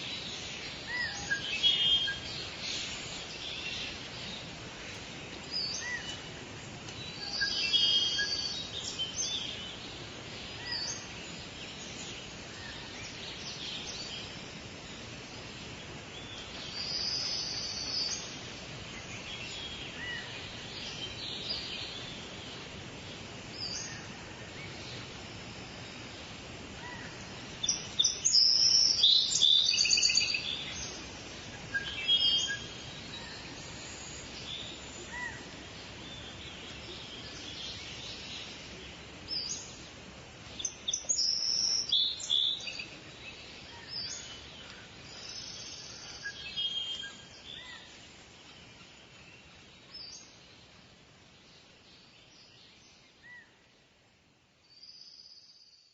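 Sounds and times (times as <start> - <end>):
songbirds singing and chirping: 0.0 - 55.9
steady background hiss: 0.0 - 55.9.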